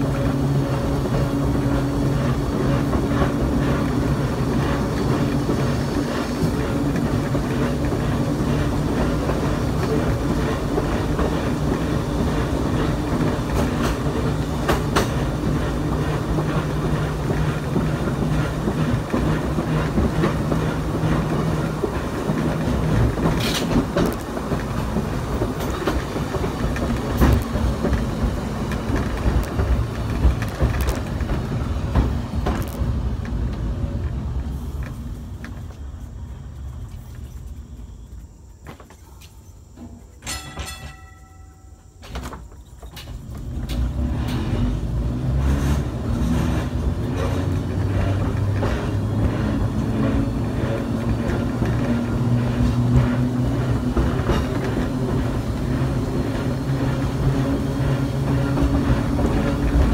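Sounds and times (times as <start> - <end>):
streetcar motor hum: 0.0 - 59.9
wheels knocking on rail joints: 0.0 - 59.9.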